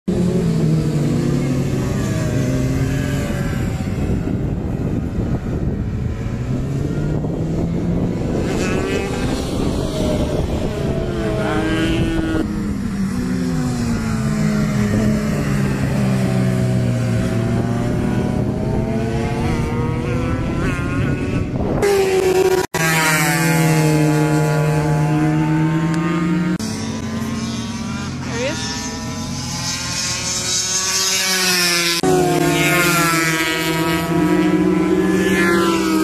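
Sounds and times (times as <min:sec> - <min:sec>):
racing motorcycle engines: 0:00.1 - 0:36.0.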